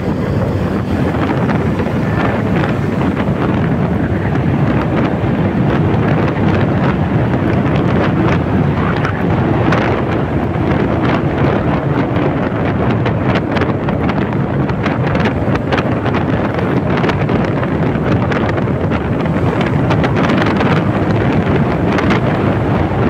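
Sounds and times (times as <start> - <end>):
scooter running and tyre noise: 0.0 - 23.0
wind buffeting microphone: 0.0 - 23.0.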